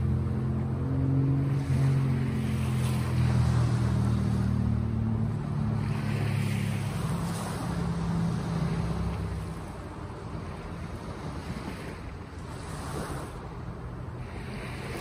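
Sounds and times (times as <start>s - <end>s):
low engine hum: 0.0s - 15.0s
sea waves washing ashore: 0.0s - 15.0s.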